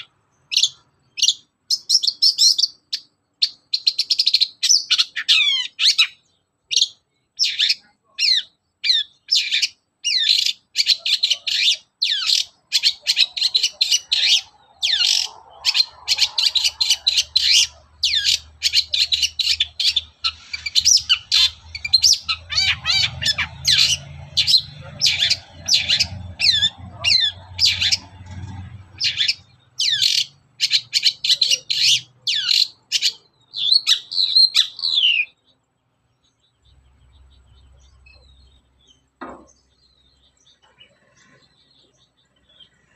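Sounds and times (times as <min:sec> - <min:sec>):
bird chattering song: 0:00.0 - 0:42.9.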